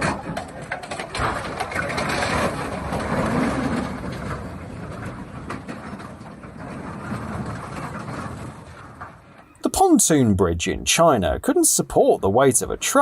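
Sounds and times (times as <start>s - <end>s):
heavy vehicle rumble: 0.0s - 13.0s.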